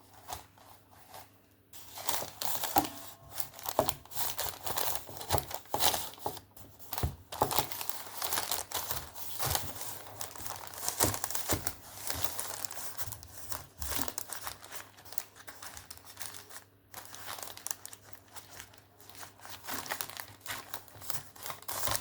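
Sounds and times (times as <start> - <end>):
hands crinkling and rustling: 0.0 - 22.0.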